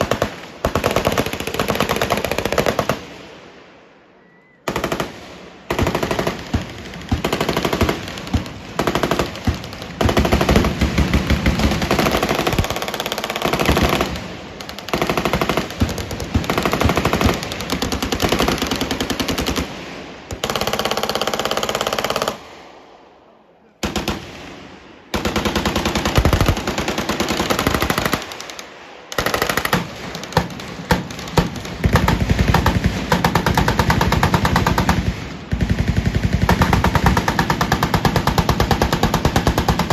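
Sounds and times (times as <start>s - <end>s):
automatic gunfire: 0.0s - 3.2s, 4.7s - 22.5s, 25.1s - 39.9s.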